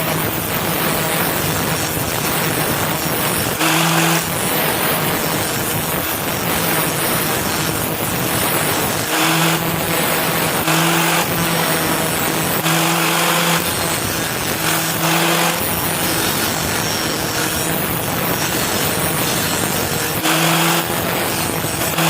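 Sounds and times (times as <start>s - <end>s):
electric grinder on steel: 0.0s - 22.0s.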